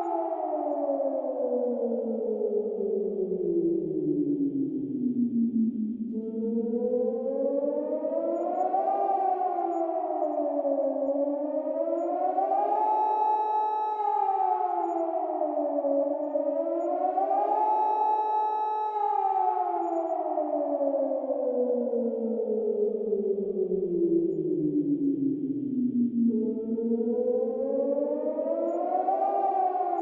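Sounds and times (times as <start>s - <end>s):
civil defence siren wailing: 0.0s - 30.0s.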